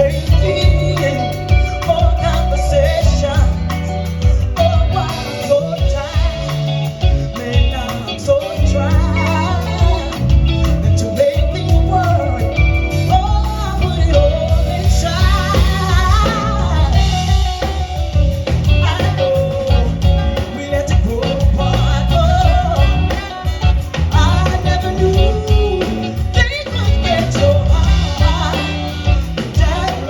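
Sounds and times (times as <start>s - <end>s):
band music with singer: 0.0s - 30.0s.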